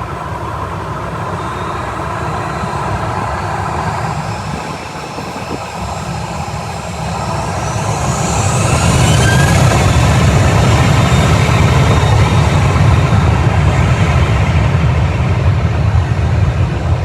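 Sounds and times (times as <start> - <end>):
faint whine rising in pitch: 0.0 - 17.0
jet engines rumbling: 0.0 - 17.0.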